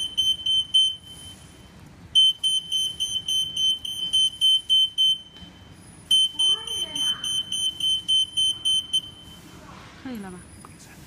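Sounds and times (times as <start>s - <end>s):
rapid high-pitched alarm beeps: 0.0s - 9.5s.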